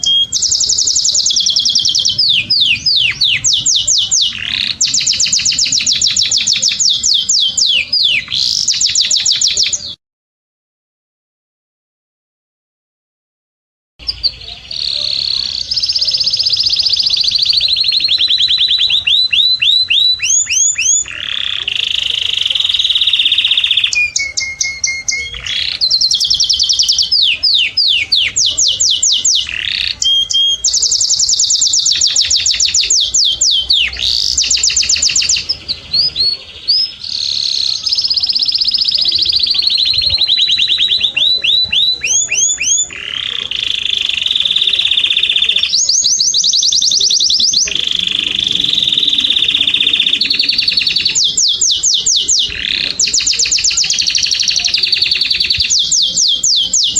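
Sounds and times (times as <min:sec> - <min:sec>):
canary singing fast trills: 0:00.0 - 0:10.0, 0:14.0 - 0:56.9.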